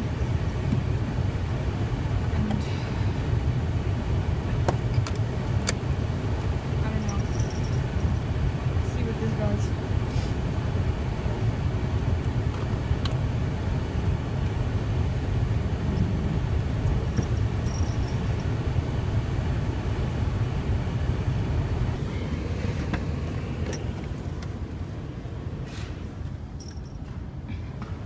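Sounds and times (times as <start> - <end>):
car engine low rumble: 0.0 - 28.0.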